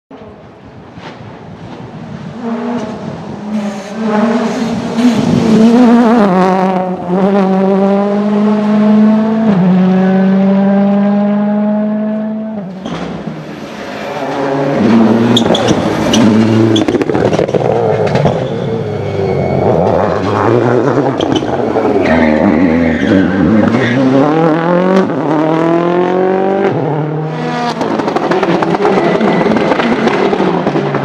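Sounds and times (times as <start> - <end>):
rally car engine accelerating: 2.2 - 31.0.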